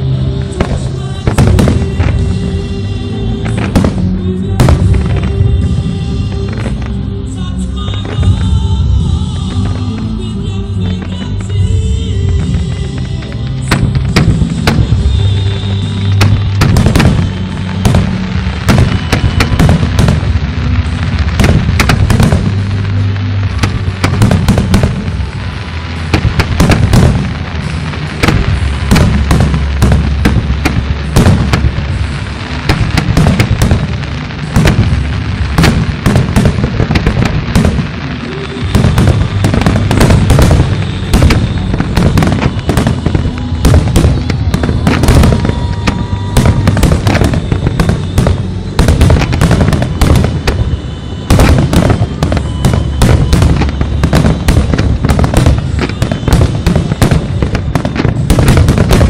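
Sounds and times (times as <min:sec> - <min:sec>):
fireworks bursting: 0:00.0 - 0:59.0
music with low bass: 0:00.0 - 0:59.0.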